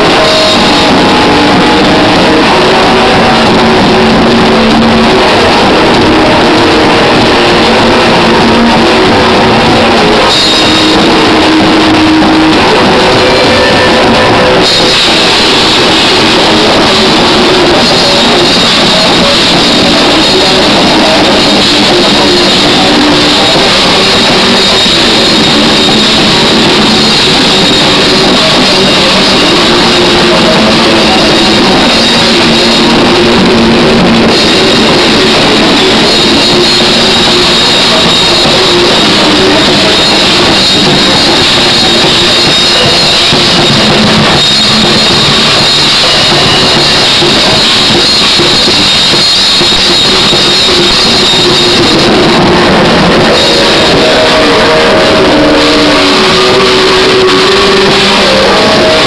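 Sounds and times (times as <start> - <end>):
metal band playing live: 0.0 - 59.0.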